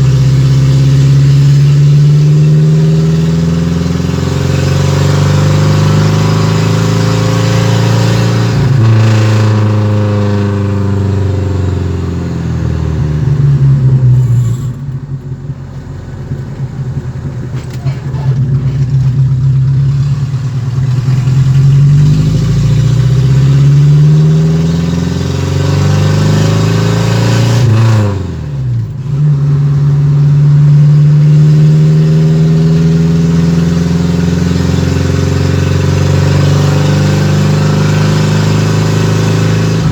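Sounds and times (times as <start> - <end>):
engine revving: 0.0 - 15.6, 16.2 - 39.9.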